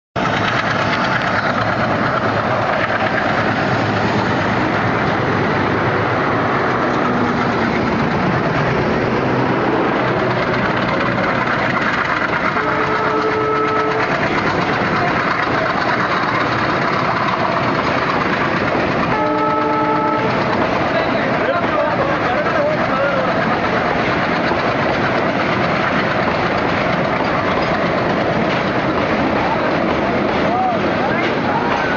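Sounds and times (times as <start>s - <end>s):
train rumbling over bridge: 0.2s - 31.9s.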